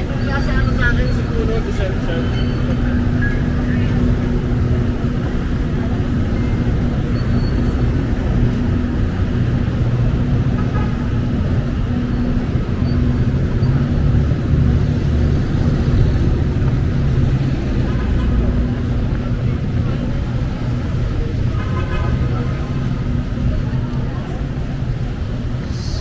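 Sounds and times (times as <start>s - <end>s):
faint voices: 0.0s - 14.2s, 16.0s - 26.0s
engine hum: 0.0s - 26.0s
road traffic rumble: 0.0s - 26.0s.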